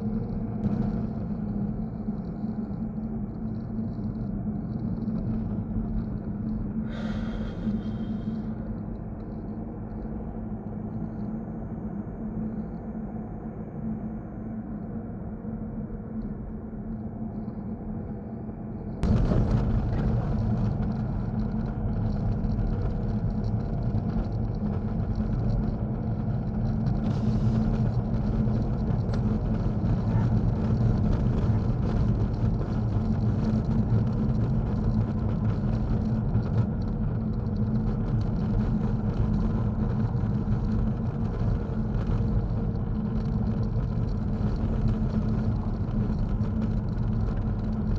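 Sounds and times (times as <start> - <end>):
car engine and tyre drone: 0.1 - 17.8, 18.8 - 47.9.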